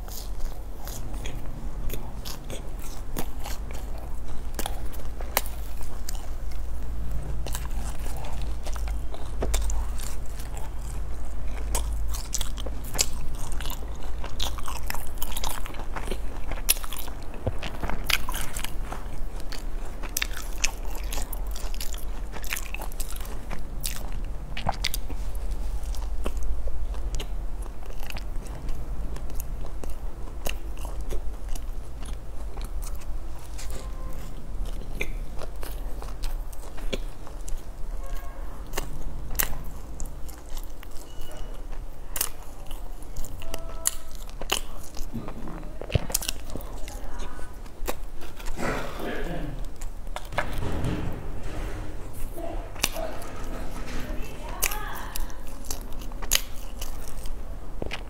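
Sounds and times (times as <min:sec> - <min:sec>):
chewing bread: 0:00.0 - 0:58.0
steady low hum: 0:00.0 - 0:58.0.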